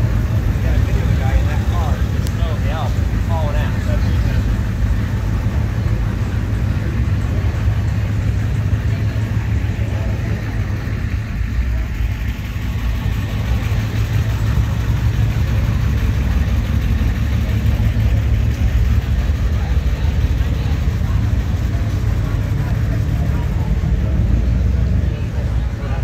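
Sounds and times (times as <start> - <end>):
car engines running: 0.0 - 26.0
indistinct voices: 0.0 - 26.0.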